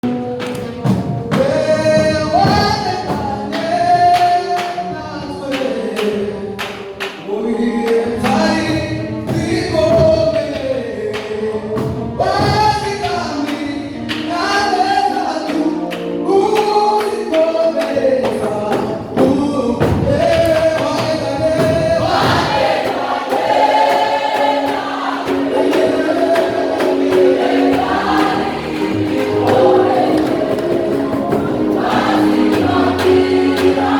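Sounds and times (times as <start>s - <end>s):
choir singing gospel song: 0.0s - 33.9s
percussion: 0.0s - 33.9s.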